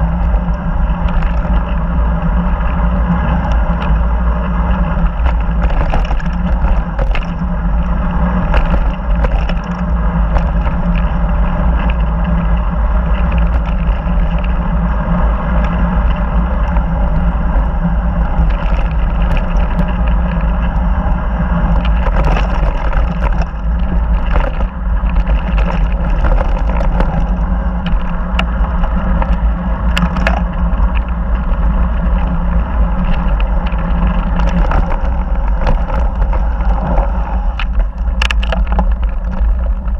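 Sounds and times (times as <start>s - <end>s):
clicks and rattles of stones: 0.0s - 14.8s, 18.2s - 39.9s
tyres on gravel: 0.0s - 39.9s
wind on microphone: 0.0s - 39.9s.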